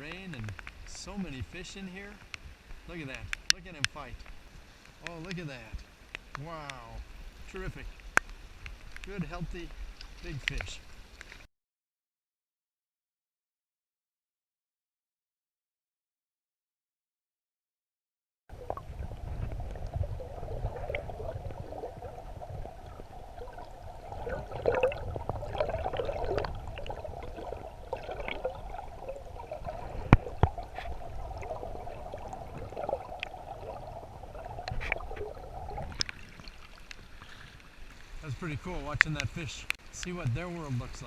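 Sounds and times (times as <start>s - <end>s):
muffled underwater river current: 0.0s - 11.5s, 18.5s - 41.0s.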